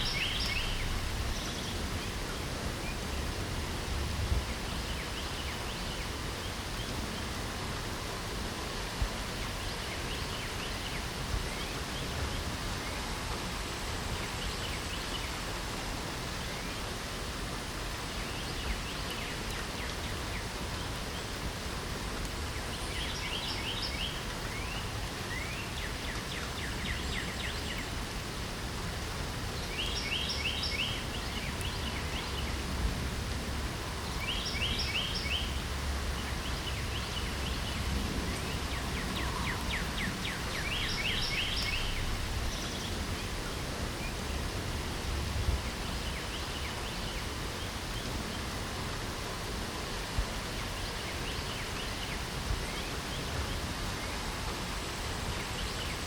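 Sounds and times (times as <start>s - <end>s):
songbird singing: 0.0s - 15.5s, 17.9s - 28.2s, 29.2s - 56.0s
light rain hiss: 0.0s - 56.0s.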